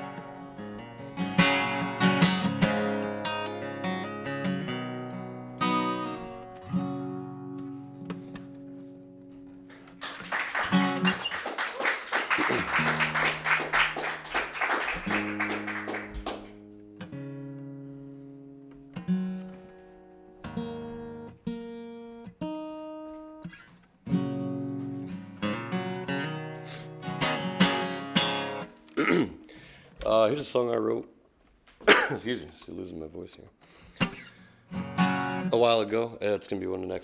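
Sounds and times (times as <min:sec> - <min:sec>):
acoustic guitar: 0:00.0 - 0:32.8, 0:33.4 - 0:37.0.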